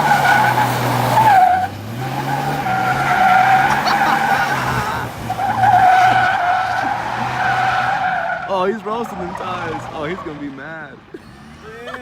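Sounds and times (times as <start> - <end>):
diesel pickup engine running: 0.0 - 12.0
tyres squealing: 0.0 - 12.0.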